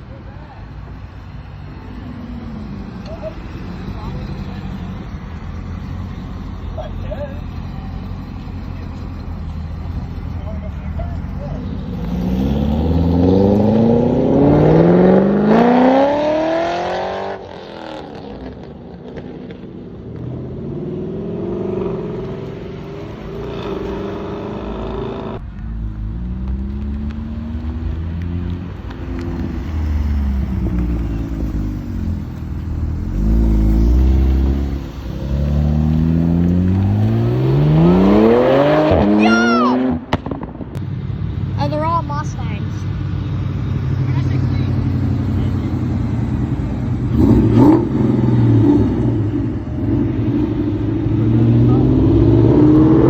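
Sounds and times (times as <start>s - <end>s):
car engines accelerating: 0.0s - 53.0s.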